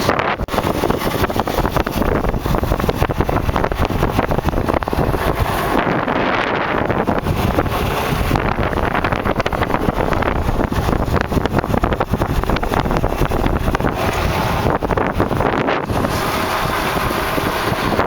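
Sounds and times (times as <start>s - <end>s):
dirt bike rattling on bumps: 0.0s - 18.0s
wind buffeting microphone: 0.0s - 18.0s.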